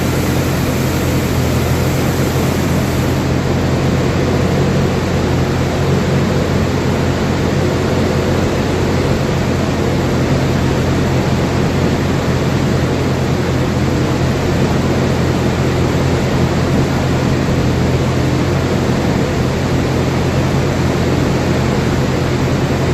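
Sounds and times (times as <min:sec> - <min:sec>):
loud machinery noise: 0:00.0 - 0:22.9.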